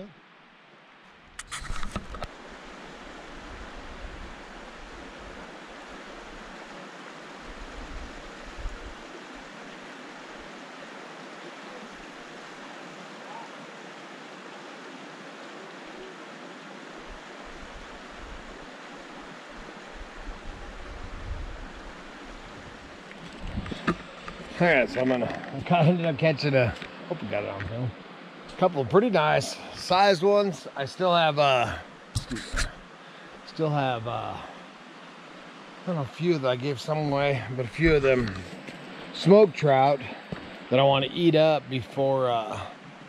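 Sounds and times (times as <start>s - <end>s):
creek running over rocks: 0.0s - 43.0s.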